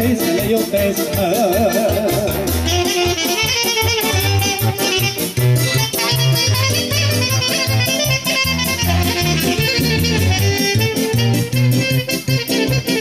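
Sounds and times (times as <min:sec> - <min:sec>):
folk dance band music: 0:00.0 - 0:13.0
saxophone melody: 0:01.4 - 0:13.0.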